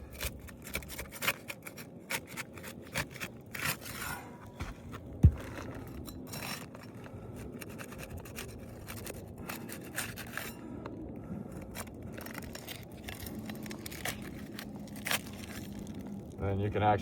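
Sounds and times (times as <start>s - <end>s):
shingles scraping: 0.0s - 10.8s, 11.6s - 16.4s.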